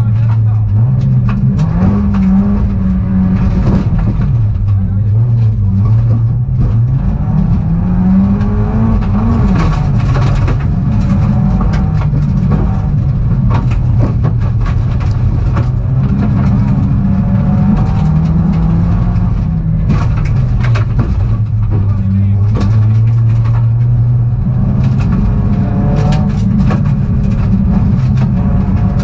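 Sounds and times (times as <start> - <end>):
knocks and rattles: 0.0 - 29.0
rally car engine accelerating: 0.0 - 29.0.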